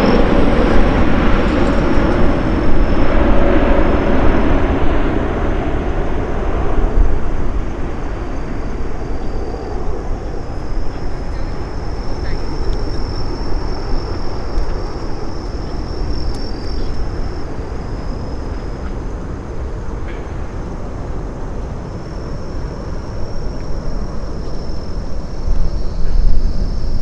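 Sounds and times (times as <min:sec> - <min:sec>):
jet engines rumbling at takeoff: 0:00.0 - 0:27.0.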